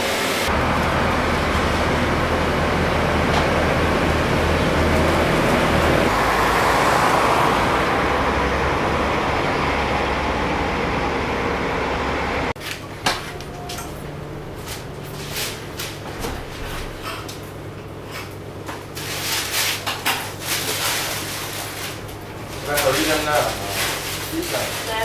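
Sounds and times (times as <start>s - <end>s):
washing machine rushing noise: 0.0s - 25.0s.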